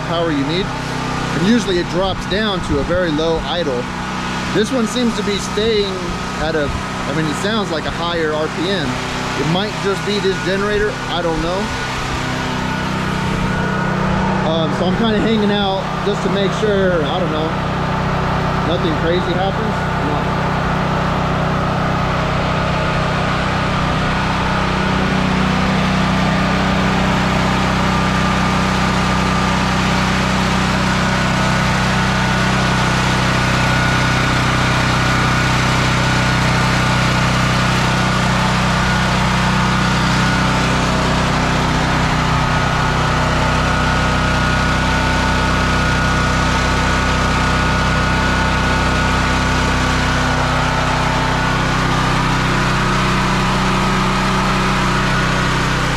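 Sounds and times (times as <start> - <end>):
generator engine running: 0.0 - 55.9.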